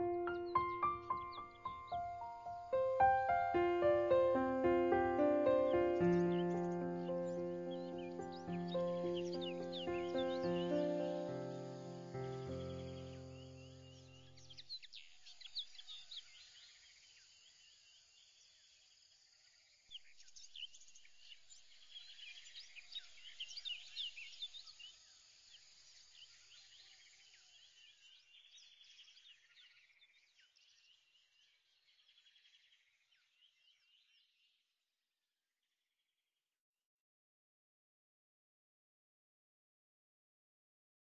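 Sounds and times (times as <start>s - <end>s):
small birds chirping: 0.0s - 18.9s, 19.9s - 34.6s.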